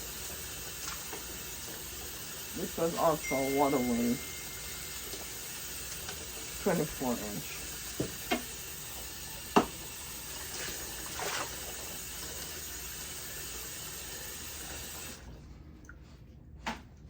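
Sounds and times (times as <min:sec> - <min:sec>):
water running from a tap: 0:00.0 - 0:15.3.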